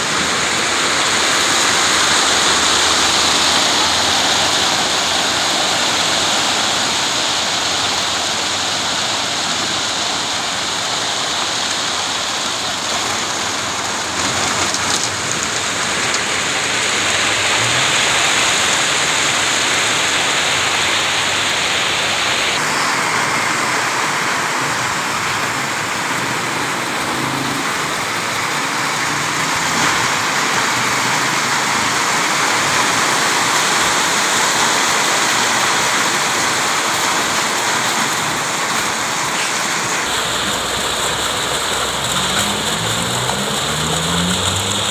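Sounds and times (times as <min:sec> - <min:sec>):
truck engine running: 0:00.0 - 0:10.2, 0:11.9 - 0:44.9
wet concrete rushing down chute: 0:00.0 - 0:44.9.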